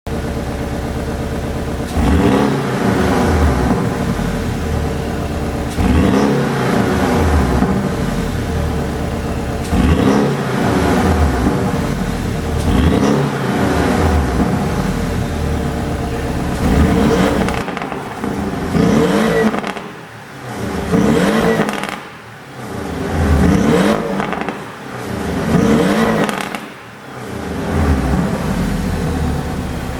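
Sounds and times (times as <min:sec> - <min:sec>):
exhaust crackles and pops: 0:00.1 - 0:24.8, 0:25.4 - 0:29.9
car engine revving: 0:00.1 - 0:29.9.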